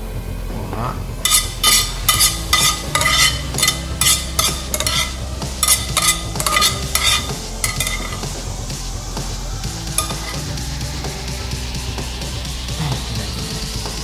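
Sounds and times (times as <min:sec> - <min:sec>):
background music with steady beat: 0:00.0 - 0:14.0.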